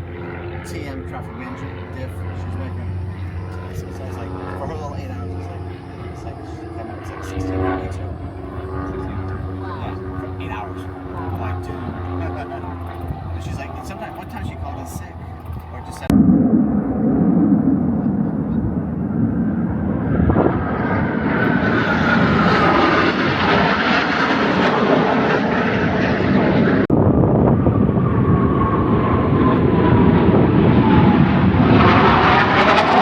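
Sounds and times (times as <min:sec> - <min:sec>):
airplane flying past: 0:00.0 - 0:33.0.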